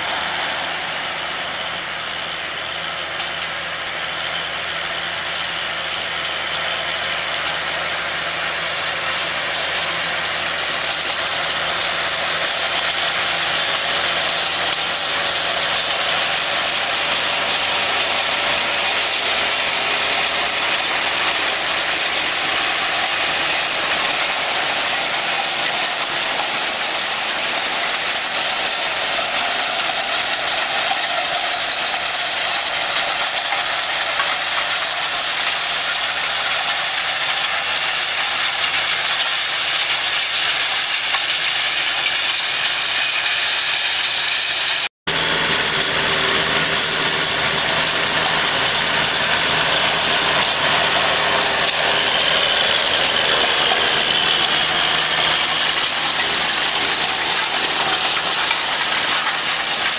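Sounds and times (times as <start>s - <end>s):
hiss of churned soil and stones: 0.0s - 59.9s
implement rattling: 0.0s - 59.9s
tractor engine under load: 0.0s - 59.9s.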